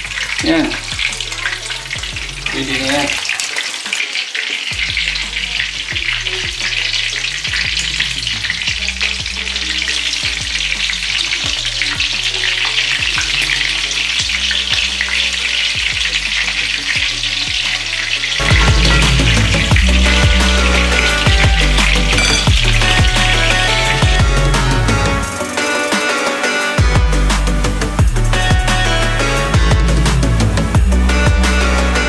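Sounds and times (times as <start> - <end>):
spring rolls frying in oil: 0.0 - 32.0.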